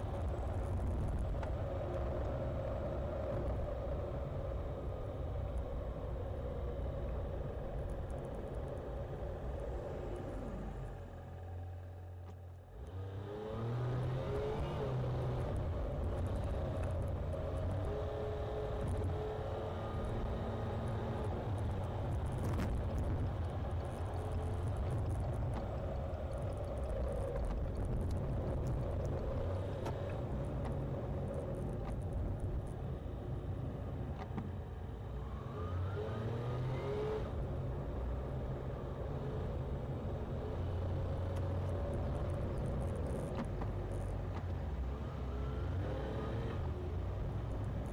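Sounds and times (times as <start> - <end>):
road noise inside car: 0.0 - 47.9.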